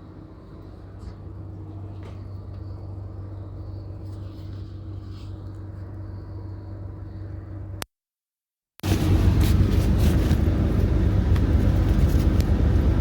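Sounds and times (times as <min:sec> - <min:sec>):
coach diesel engine drone: 0:00.0 - 0:07.9, 0:08.8 - 0:13.0.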